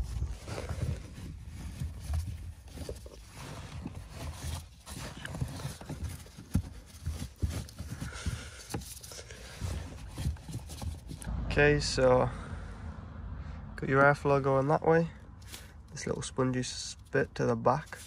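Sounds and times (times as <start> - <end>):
rustling: 0.0 - 11.3, 14.1 - 18.0.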